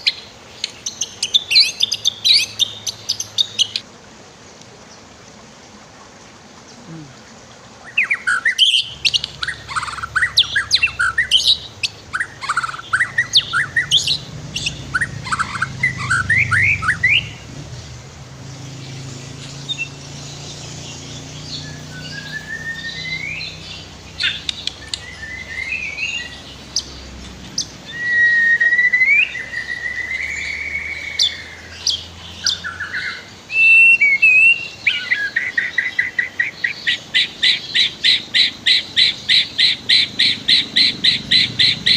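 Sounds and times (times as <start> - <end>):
bird singing whistled notes: 0.0 - 3.8, 7.9 - 17.6, 18.4 - 27.0, 27.6 - 41.9
river flowing: 0.0 - 41.9.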